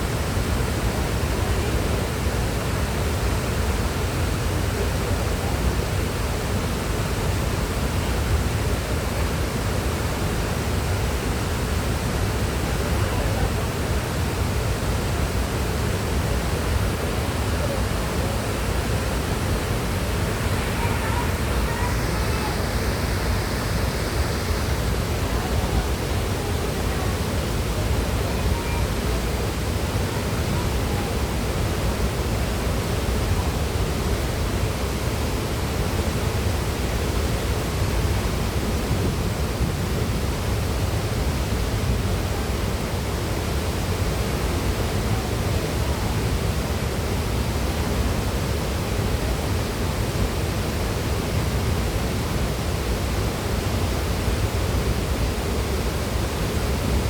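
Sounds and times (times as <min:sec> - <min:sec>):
waterfall roar: 0:00.0 - 0:57.0.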